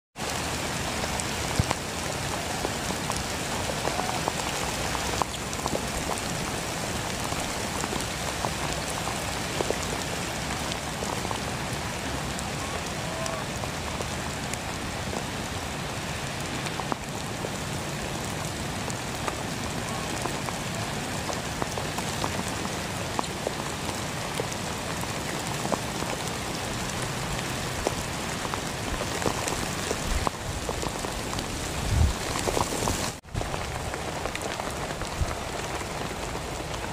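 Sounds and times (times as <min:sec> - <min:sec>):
heavy rain on puddles: 0:00.2 - 0:36.9.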